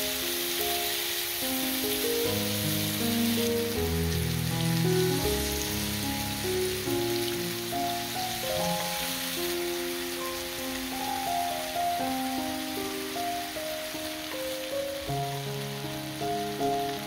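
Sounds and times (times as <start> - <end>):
background music of held notes: 0.0 - 17.0
food sizzling on a grill pan: 0.0 - 17.0.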